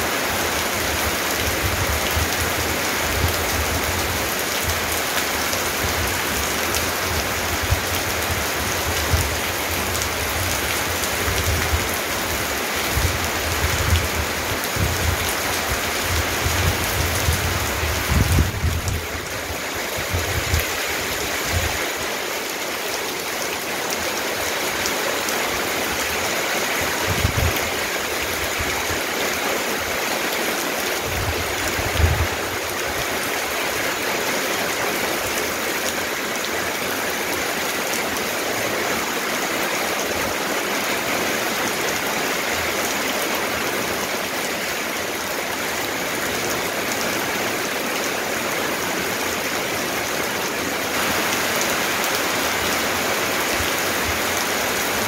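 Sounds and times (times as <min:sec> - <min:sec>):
rain falling on tiles: 0:00.0 - 0:55.0.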